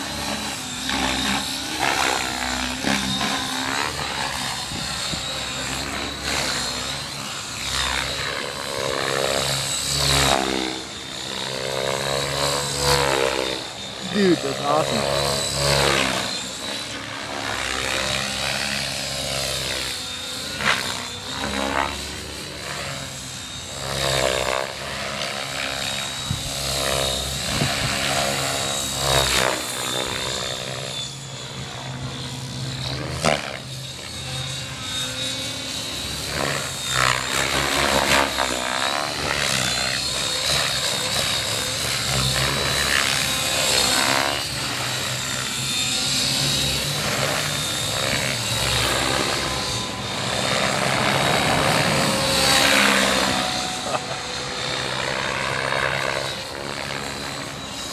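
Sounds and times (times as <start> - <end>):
rc helicopter rotor whine: 0.0 - 57.9.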